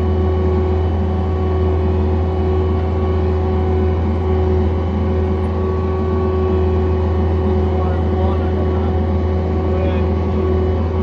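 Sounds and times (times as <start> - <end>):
diesel engine running steadily: 0.0 - 11.0.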